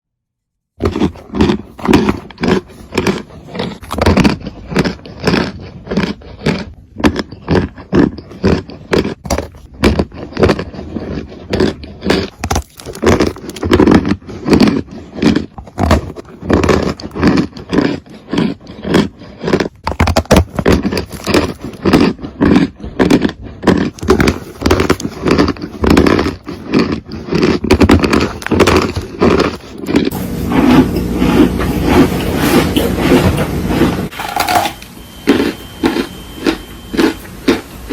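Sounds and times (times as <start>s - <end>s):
brittle material crunching: 0.8s - 37.7s.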